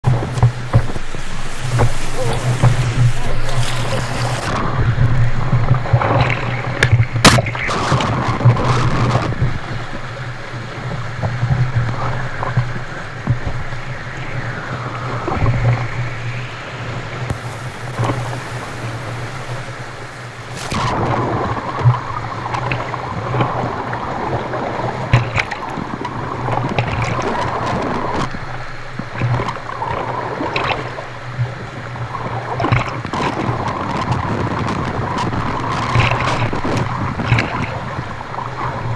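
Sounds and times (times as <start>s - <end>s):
low water rumble: 0.0s - 38.9s
rapids rushing and splashing: 0.0s - 38.9s.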